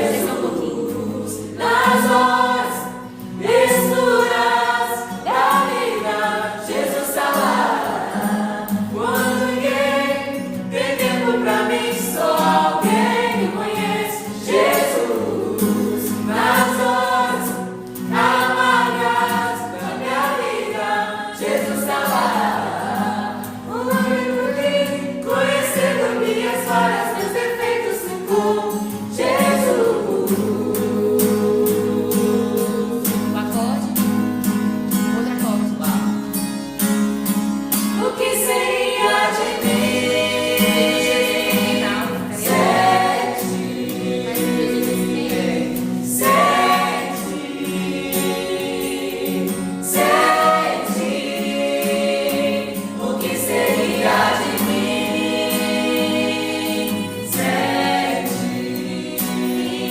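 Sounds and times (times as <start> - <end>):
gospel choir singing: 0.0 - 34.7, 36.8 - 59.9.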